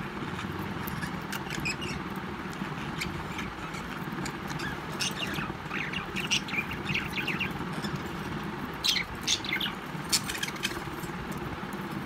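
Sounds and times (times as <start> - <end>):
steady low hum: 0.0 - 12.0
budgies chirping: 0.2 - 11.4.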